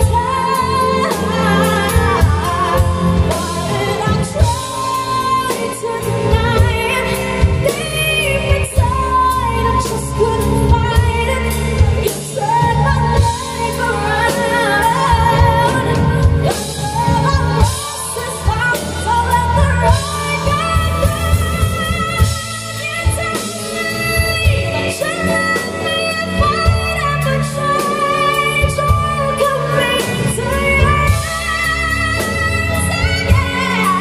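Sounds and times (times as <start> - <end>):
band with drums and bass: 0.0 - 34.0
woman singing into microphone: 0.0 - 34.0.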